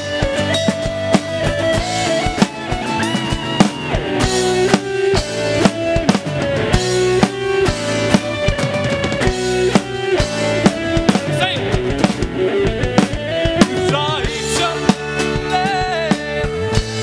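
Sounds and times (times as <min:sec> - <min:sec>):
drum kit beat: 0:00.0 - 0:17.0
guitars: 0:00.0 - 0:17.0.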